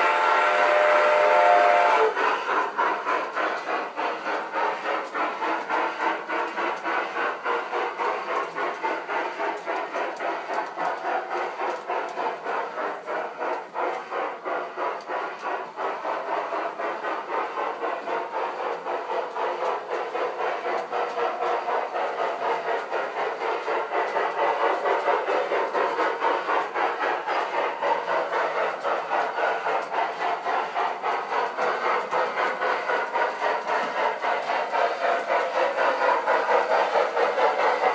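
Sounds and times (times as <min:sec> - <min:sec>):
model steam locomotive chuffing: 0:00.0 - 0:37.9.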